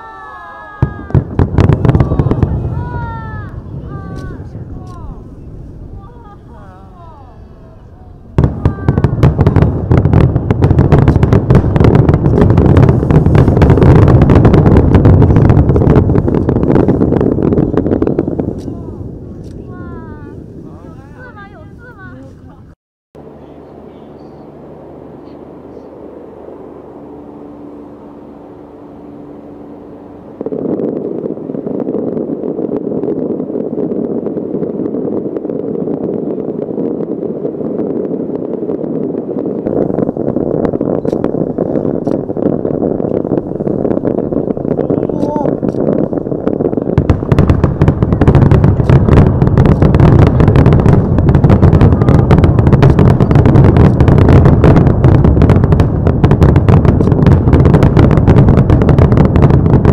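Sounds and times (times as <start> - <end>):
fireworks bangs and crackles: 0.0 - 59.9
low rumble: 0.8 - 59.9.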